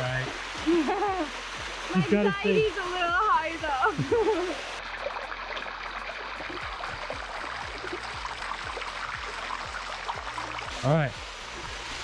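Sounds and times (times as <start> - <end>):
water trickling over rock: 0.0 - 12.0.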